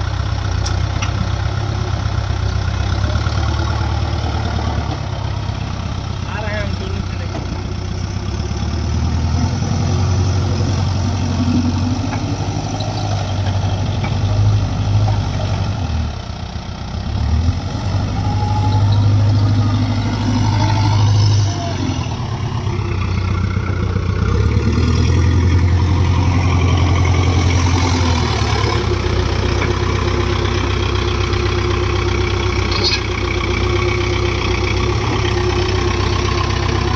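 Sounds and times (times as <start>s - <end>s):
diesel engines droning: 0.0s - 36.9s.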